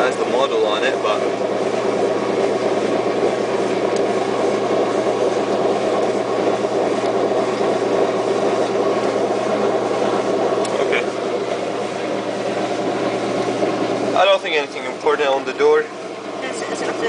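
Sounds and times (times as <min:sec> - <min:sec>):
washing machine motor droning: 0:00.0 - 0:17.0.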